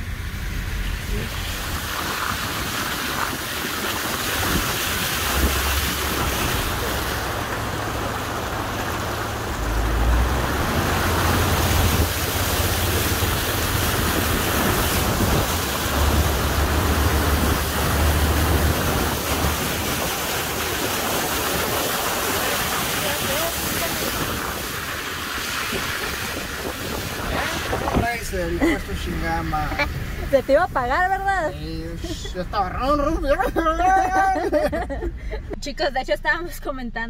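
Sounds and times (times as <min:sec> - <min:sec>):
water spraying and rushing: 0:00.0 - 0:35.4
car driving through floodwater: 0:00.0 - 0:35.8.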